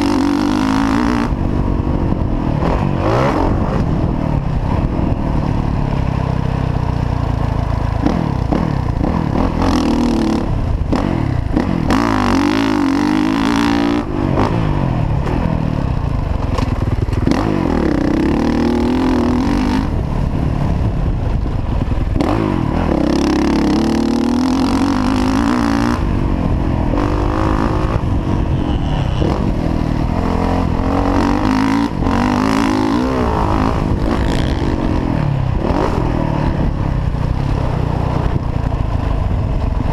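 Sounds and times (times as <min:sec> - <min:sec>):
dirt bike engine revving: 0:00.0 - 0:39.9
wind on microphone: 0:07.8 - 0:39.9.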